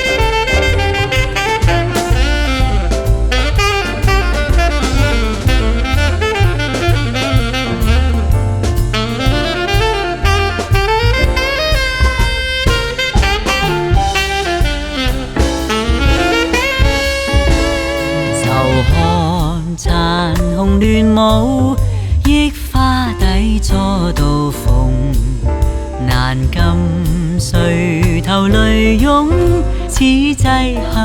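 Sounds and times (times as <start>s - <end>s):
drum beat: 0.0s - 31.0s
walking bass: 0.0s - 31.0s.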